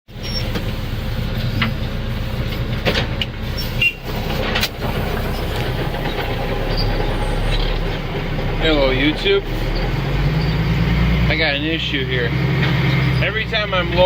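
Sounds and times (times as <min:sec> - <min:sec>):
truck diesel engine running: 0:00.1 - 0:14.0.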